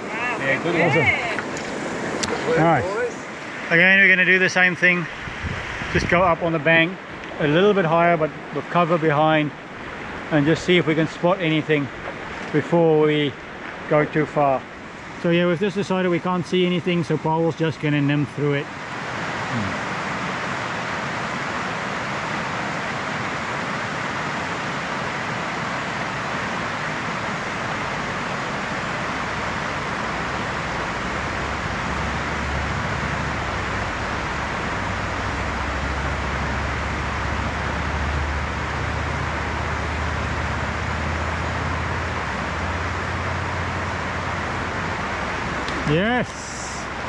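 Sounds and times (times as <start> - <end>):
stream water rushing over rocks: 0.0 - 47.0.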